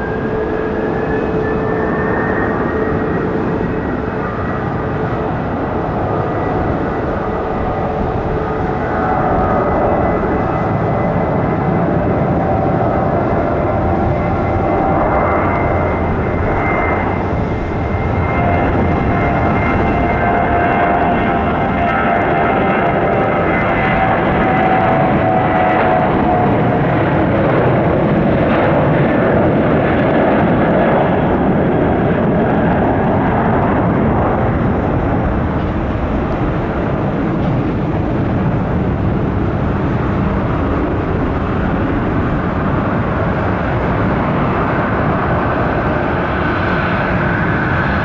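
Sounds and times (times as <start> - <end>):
jet engine roar: 0.0 - 48.0
jet engine whine: 0.0 - 48.0.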